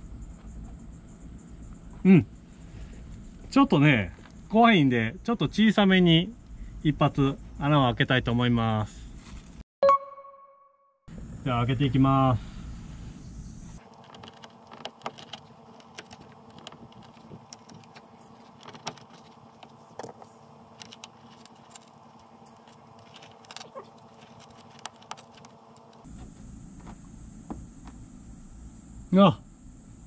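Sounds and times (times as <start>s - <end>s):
faint steady hum: 0.0s - 9.2s, 11.1s - 30.0s.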